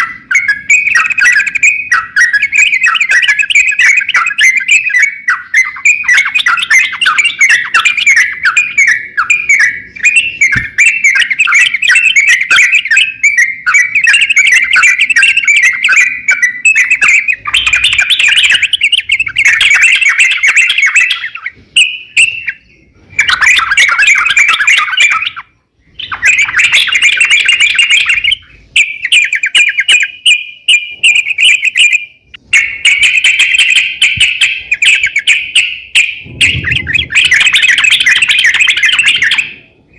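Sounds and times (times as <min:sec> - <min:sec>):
songbird chirping and squawking: 0:00.0 - 0:39.9.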